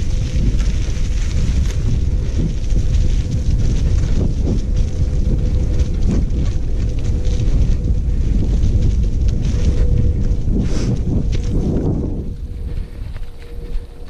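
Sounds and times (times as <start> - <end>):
bike rattling over leaves and dirt: 0.0 - 14.0
faint steady hum: 0.0 - 14.0
wind buffeting microphone: 0.0 - 14.0.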